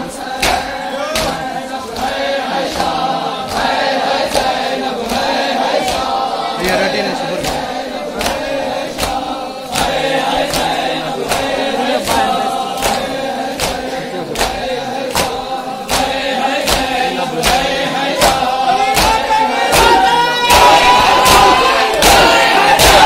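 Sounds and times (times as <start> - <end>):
men chanting a lament: 0.0 - 23.0
chest slapping in unison: 0.3 - 6.2, 7.4 - 23.0.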